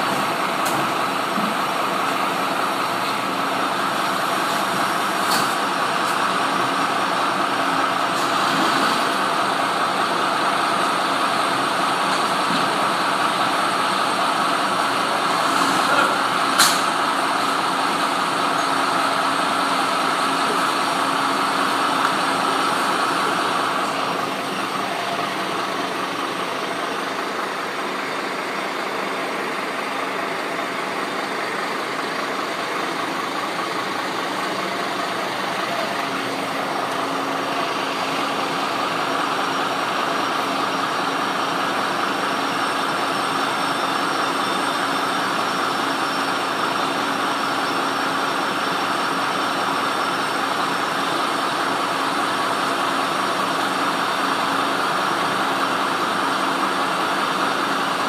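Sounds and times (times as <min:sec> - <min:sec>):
heavy vehicle engine idling: 0:00.0 - 0:58.0.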